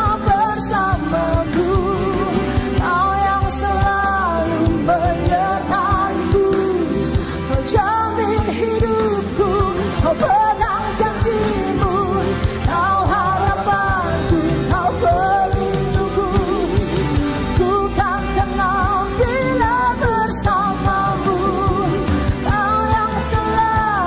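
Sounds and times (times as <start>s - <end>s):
group of singers singing: 0.0s - 24.0s
pop-rock band playing: 0.0s - 24.0s.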